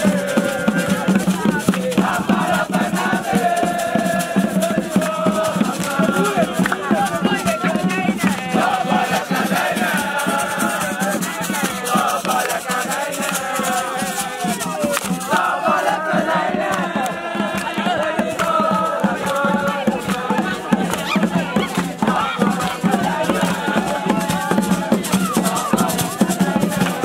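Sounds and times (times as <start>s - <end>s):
fast rattling percussion beat: 0.0s - 27.0s
group of voices chanting: 0.0s - 27.0s.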